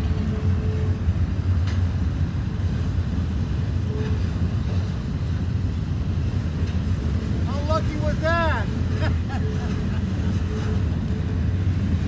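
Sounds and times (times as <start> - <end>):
passing train rumbling: 0.0 - 12.0.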